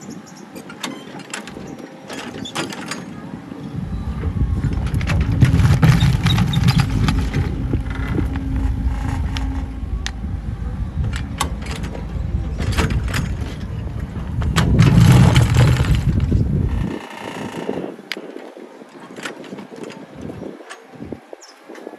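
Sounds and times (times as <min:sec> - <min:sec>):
excavator engine rumbling: 0:00.1 - 0:18.0.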